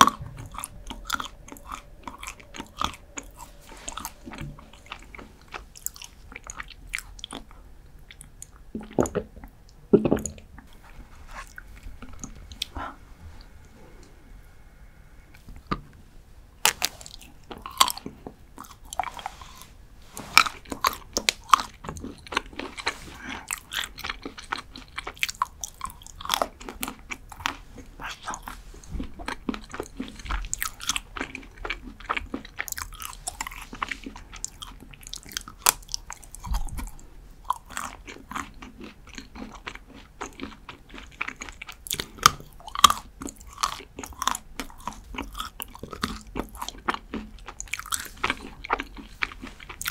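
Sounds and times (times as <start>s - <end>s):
crunchy chewing of chocolate: 0.0s - 9.6s, 16.6s - 49.9s.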